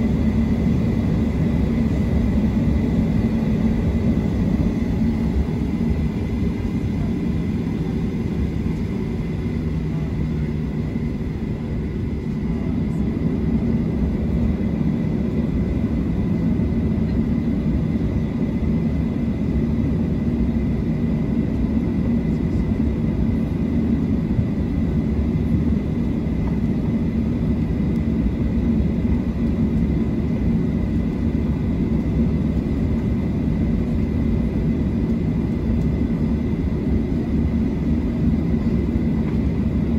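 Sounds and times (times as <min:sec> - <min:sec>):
jet engine low rumble: 0:00.0 - 0:39.9.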